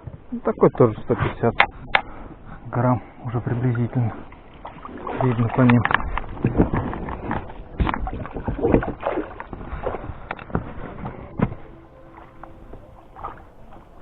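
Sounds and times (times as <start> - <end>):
splashy rustling handling noises: 0.9 - 14.0.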